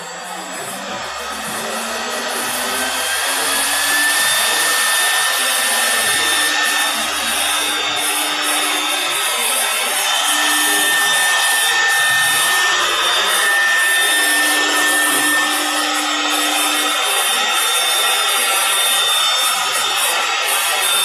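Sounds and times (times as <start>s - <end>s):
router cutting wood: 0.0s - 21.0s
router spindle whining: 0.0s - 21.0s.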